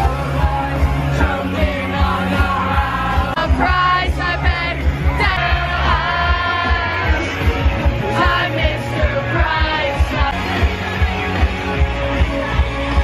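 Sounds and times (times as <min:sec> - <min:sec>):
music with thumping beat: 0:00.0 - 0:13.0
singing: 0:00.0 - 0:13.0.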